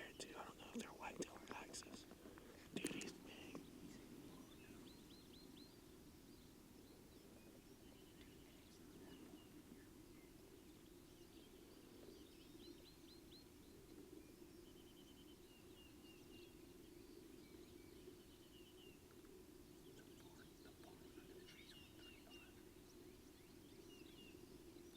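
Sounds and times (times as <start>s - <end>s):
faint bird chirps and trills: 0.0s - 24.9s.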